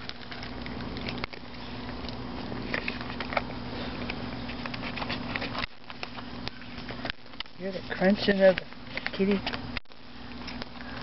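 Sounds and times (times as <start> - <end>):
cats crunching dry kibble: 0.0 - 11.0.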